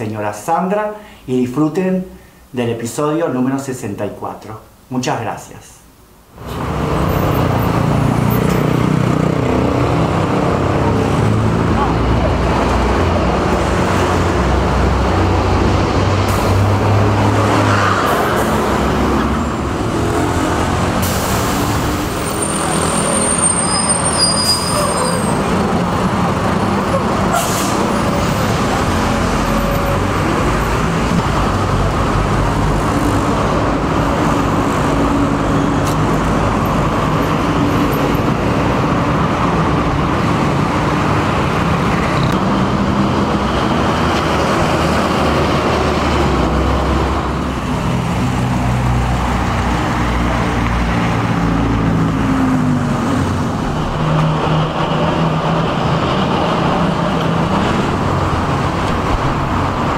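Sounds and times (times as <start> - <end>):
bus and car engines passing: 6.4 - 59.9.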